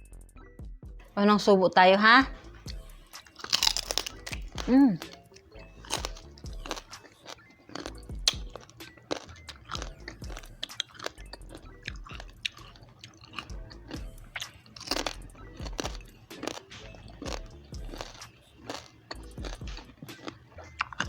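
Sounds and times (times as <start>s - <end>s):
faint background music: 0.0s - 21.0s
crunching and chewing: 2.4s - 21.0s.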